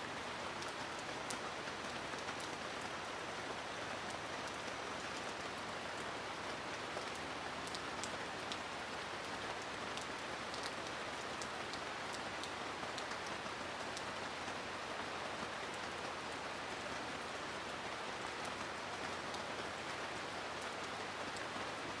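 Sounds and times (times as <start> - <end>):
steady rainfall: 0.0 - 22.0
raindrops ticking on a surface: 0.2 - 21.9.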